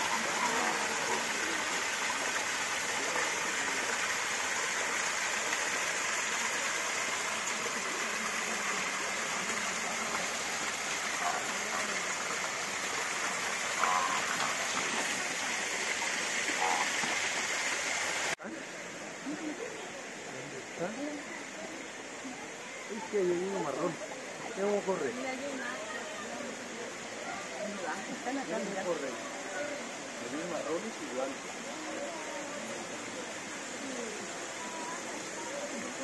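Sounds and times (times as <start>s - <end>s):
small waterfall splashing: 0.0s - 36.0s.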